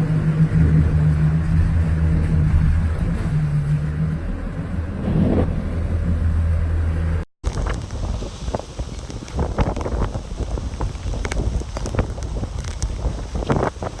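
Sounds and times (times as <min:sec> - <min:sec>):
low motor hum: 0:00.0 - 0:14.0
storm wind buffeting microphone: 0:00.0 - 0:14.0.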